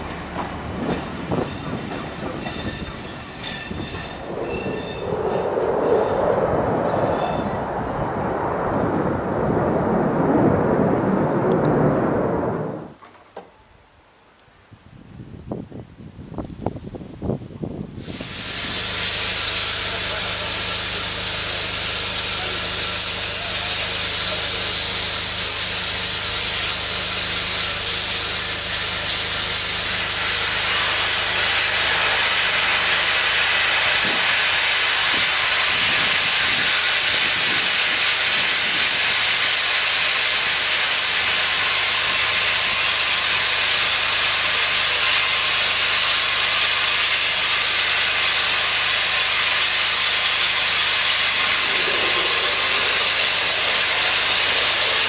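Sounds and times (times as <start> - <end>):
steam locomotive hissing steam: 0.0 - 7.6, 18.0 - 55.0.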